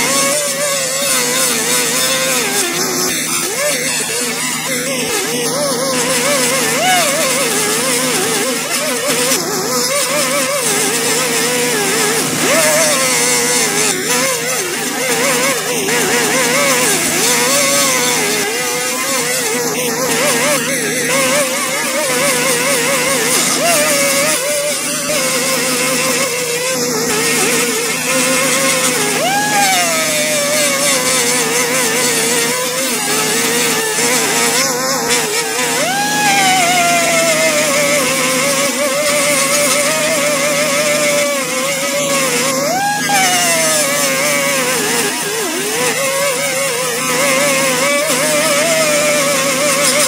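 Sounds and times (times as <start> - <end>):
arc spray welder hissing: 0.0 - 50.0.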